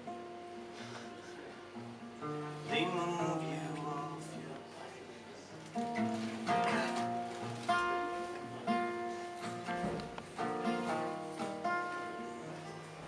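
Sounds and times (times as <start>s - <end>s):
acoustic guitar strumming chords: 0.0s - 4.9s, 5.5s - 13.0s.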